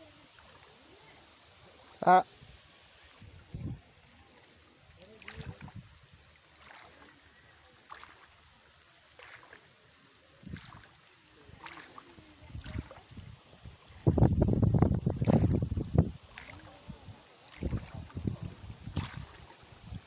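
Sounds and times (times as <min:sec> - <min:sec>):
feet wading through water: 0:00.0 - 0:20.0.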